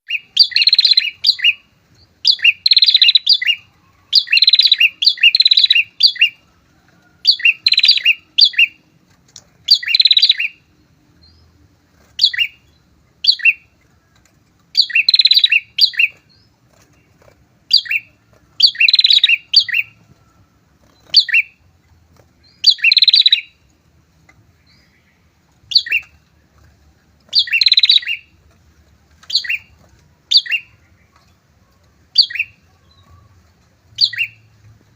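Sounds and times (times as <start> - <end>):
birds chirping rapidly: 0.0 - 34.9.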